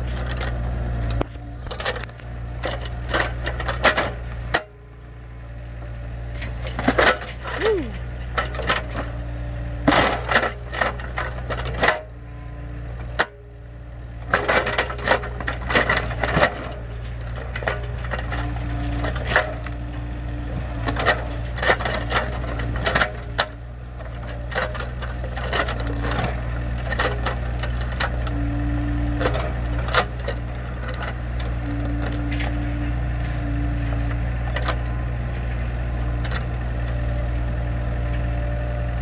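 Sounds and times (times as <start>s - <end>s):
excavator engine running: 0.0s - 39.0s.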